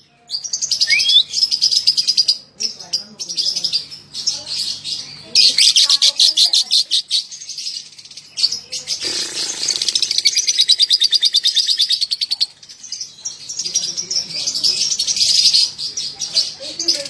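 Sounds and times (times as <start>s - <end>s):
lovebird chattering: 0.4s - 17.0s.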